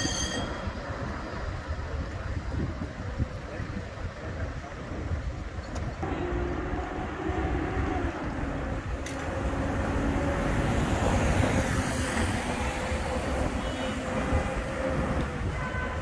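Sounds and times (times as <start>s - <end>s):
street traffic: 0.0s - 16.0s
wind buffeting microphone: 0.6s - 16.0s.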